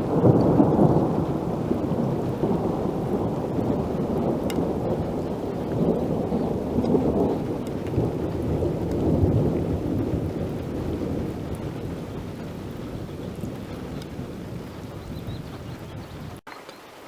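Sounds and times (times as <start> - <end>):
thunder rumbling: 0.0 - 16.4.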